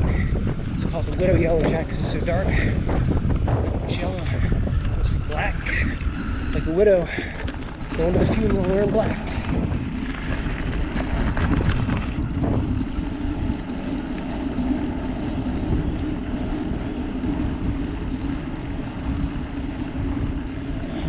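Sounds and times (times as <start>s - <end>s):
bike tyres rumbling on dirt: 0.0s - 21.0s
steady hum: 0.0s - 21.0s.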